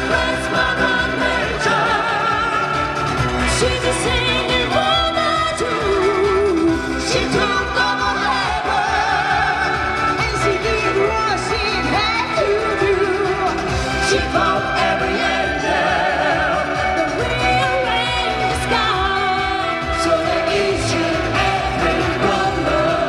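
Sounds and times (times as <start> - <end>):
vocal group singing pop song: 0.0 - 23.0.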